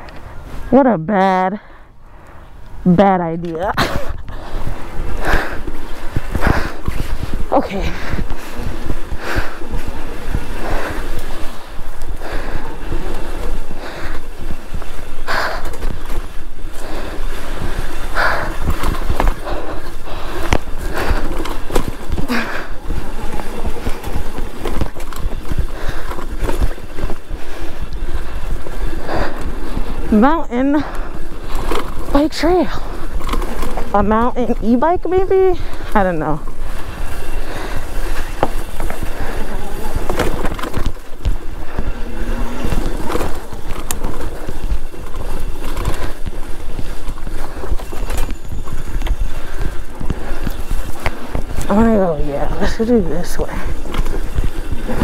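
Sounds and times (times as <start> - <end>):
wind buffeting microphone: 0.0 - 55.0
bike rattling over dirt trail: 2.7 - 55.0
low rumble: 3.7 - 55.0.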